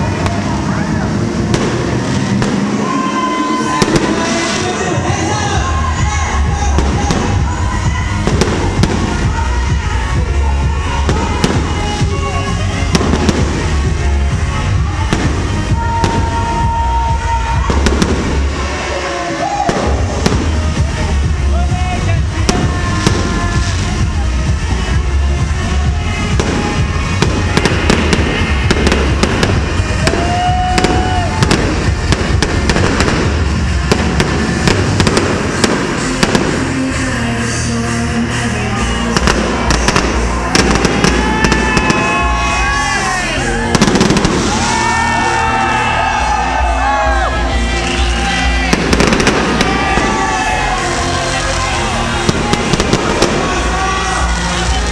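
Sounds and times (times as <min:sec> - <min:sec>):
fireworks bangs: 0:00.0 - 0:05.1, 0:06.1 - 0:37.2, 0:39.1 - 0:45.6, 0:47.8 - 0:54.5
crowd voices: 0:00.0 - 0:54.9
loud bass-heavy music: 0:00.0 - 0:54.9.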